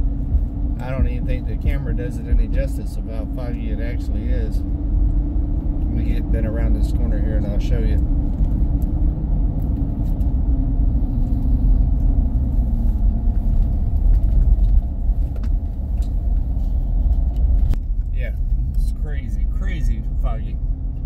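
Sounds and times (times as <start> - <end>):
engine and tyre rumble inside cab: 0.0 - 21.0.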